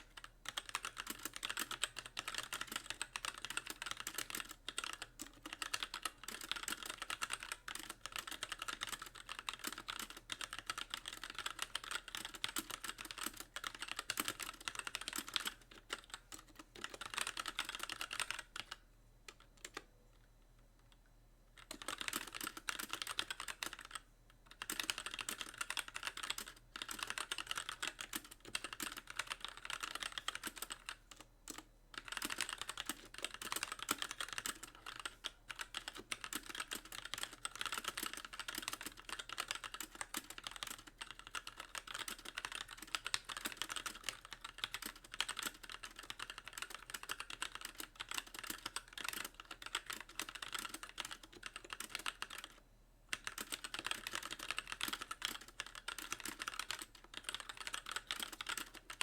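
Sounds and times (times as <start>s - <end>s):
mechanical keyboard typing: 0.0s - 19.9s, 21.6s - 59.0s.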